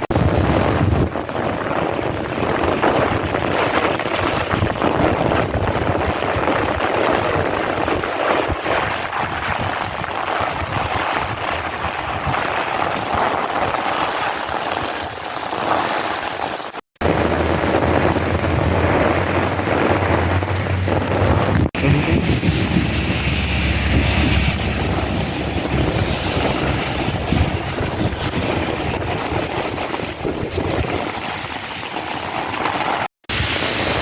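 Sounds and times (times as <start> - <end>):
heavy rain pouring: 0.0 - 34.0
wind gusting across microphone: 0.0 - 34.0.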